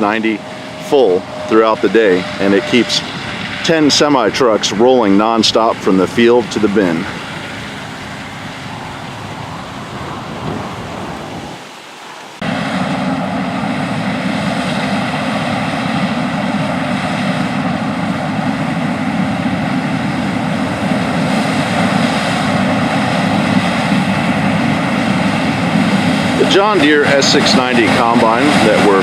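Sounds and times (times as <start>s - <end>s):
combine harvester drone: 0.0s - 29.0s.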